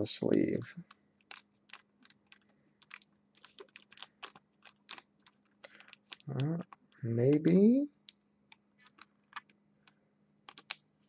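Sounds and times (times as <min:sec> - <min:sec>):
plastic card sleeve crinkling: 0:00.3 - 0:07.7, 0:08.5 - 0:10.8.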